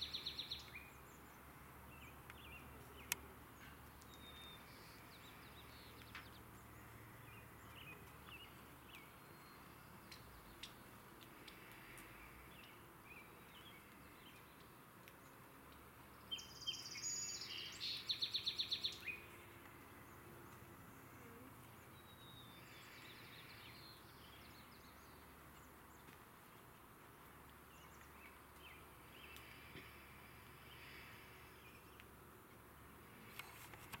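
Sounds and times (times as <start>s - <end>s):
low background noise: 0.0s - 34.0s
songbird singing: 0.0s - 34.0s.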